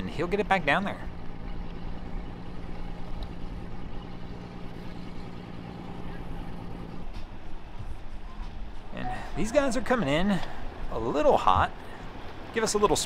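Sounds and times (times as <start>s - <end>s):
engine humming at low revs: 0.0s - 13.0s.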